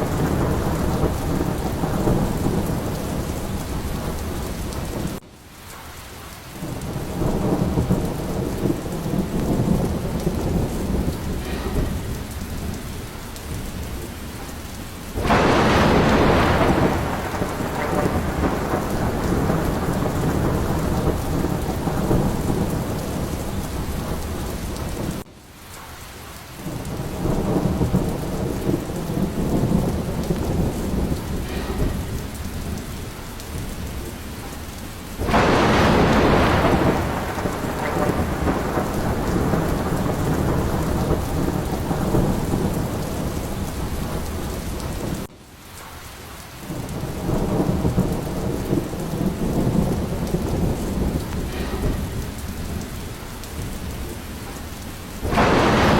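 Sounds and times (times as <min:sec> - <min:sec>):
low rumble of thunder: 0:00.0 - 0:05.2, 0:06.6 - 0:25.3, 0:26.6 - 0:45.3, 0:46.6 - 0:55.9
sharp thunderclap: 0:00.0 - 0:05.2, 0:06.6 - 0:25.9, 0:26.6 - 0:45.3, 0:46.7 - 0:55.9
steady rain: 0:00.0 - 0:55.9.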